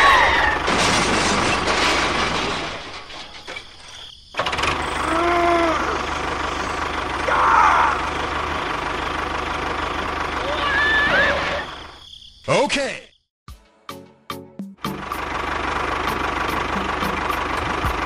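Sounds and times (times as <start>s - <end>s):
tractor engine idling: 0.0s - 3.8s, 4.4s - 12.0s, 14.8s - 18.0s.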